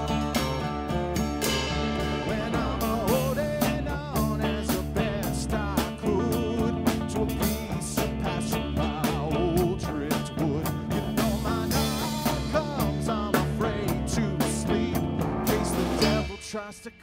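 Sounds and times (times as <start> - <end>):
bass guitar: 0.0 - 16.8
drums steady beat: 0.0 - 17.0
guitar: 0.0 - 17.0.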